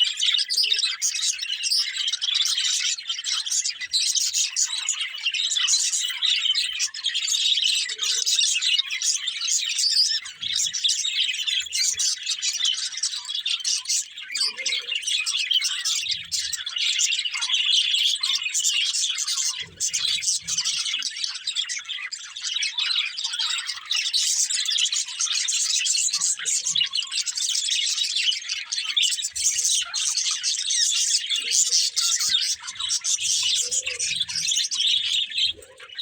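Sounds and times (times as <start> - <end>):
budgerigars chirping: 0.0 - 36.0.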